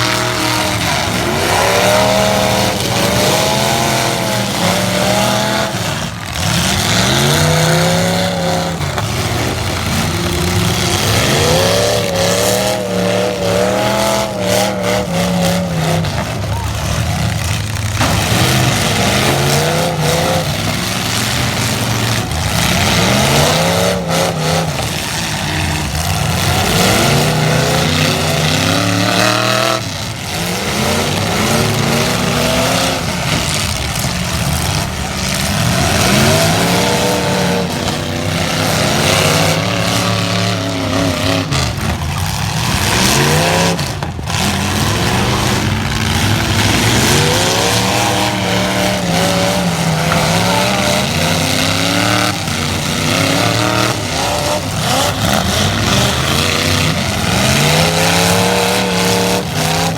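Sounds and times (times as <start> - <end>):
truck engines revving: 0.0 - 59.9.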